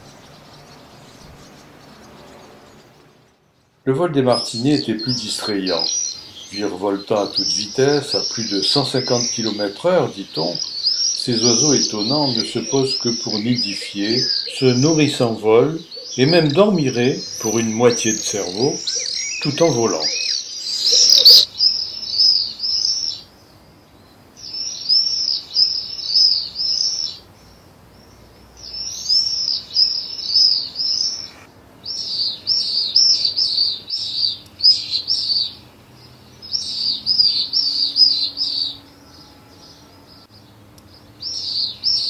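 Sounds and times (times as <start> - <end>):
swifts screaming: 4.0 - 42.0.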